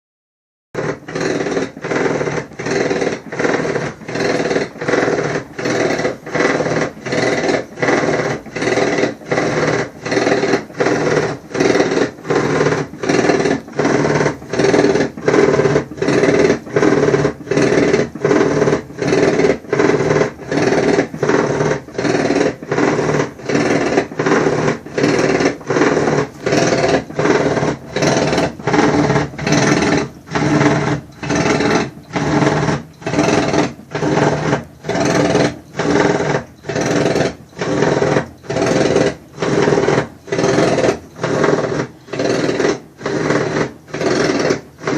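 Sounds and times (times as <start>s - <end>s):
washing machine rhythmic noise: 0.8s - 44.9s.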